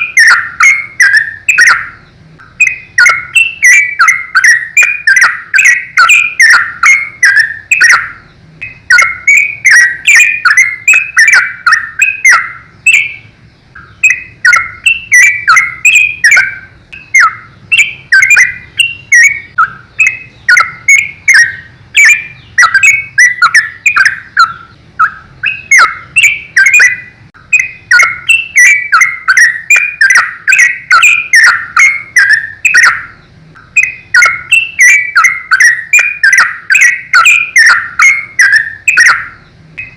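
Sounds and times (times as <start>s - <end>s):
bird singing rapid notes: 0.0s - 39.9s.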